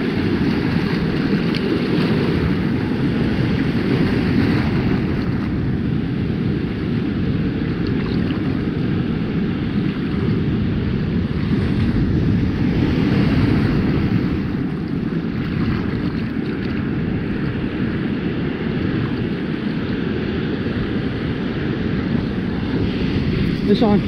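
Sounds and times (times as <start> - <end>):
ocean surf: 0.0 - 24.0
wind buffeting microphone: 0.0 - 24.0.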